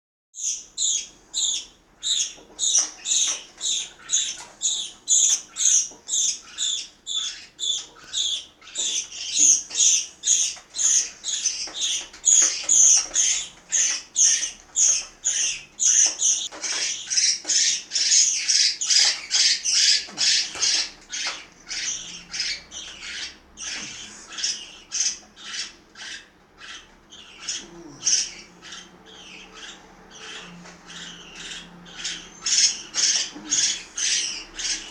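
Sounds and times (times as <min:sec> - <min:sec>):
parakeets squawking: 0:00.4 - 0:34.9.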